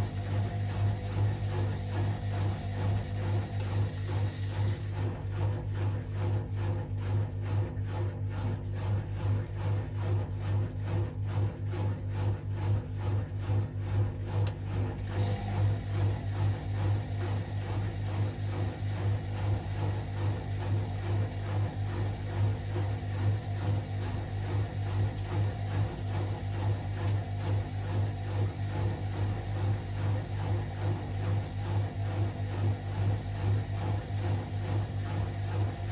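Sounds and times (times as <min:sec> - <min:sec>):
washing machine pulsing hum: 0:00.0 - 0:35.9.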